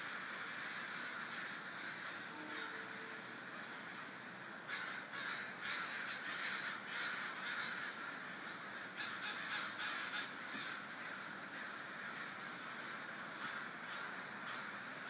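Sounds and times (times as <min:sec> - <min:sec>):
crows cawing: 0:00.0 - 0:15.0.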